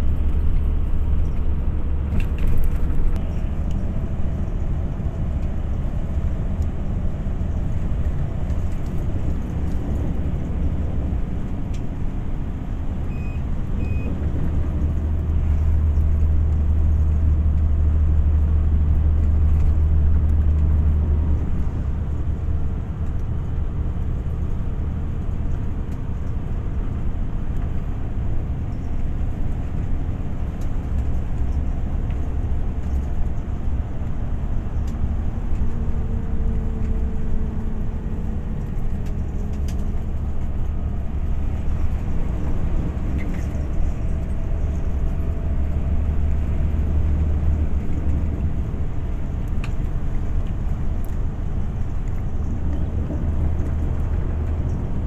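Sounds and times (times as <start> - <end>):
motor vehicle rumble: 0.0 - 55.0.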